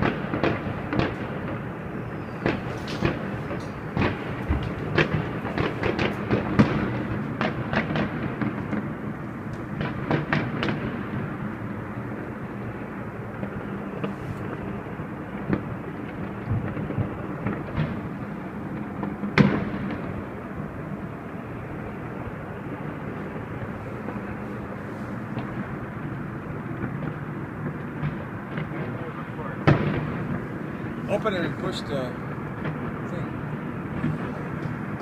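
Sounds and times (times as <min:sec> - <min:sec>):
distant fireworks rumble: 0:00.0 - 0:35.0
fireworks sharp bangs: 0:00.0 - 0:35.0.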